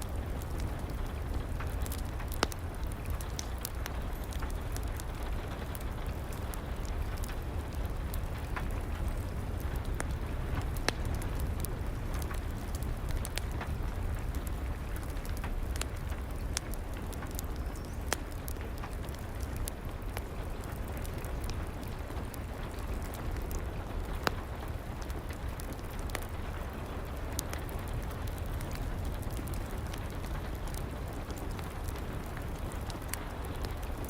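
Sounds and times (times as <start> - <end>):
steady rain: 0.0 - 34.0
wood fire crackling: 0.0 - 34.0.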